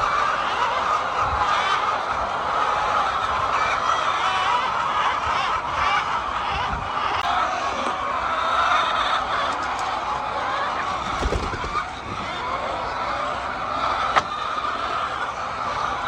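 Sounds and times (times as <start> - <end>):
hens clucking: 0.1 - 15.8.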